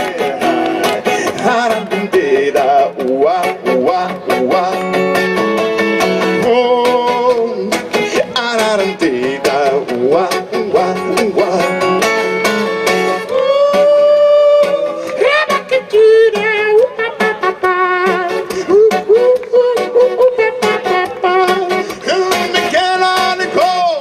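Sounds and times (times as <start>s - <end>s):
person singing wordless melody: 0.0s - 5.6s, 6.2s - 12.4s, 13.1s - 24.0s
acoustic guitar strumming: 0.0s - 24.0s.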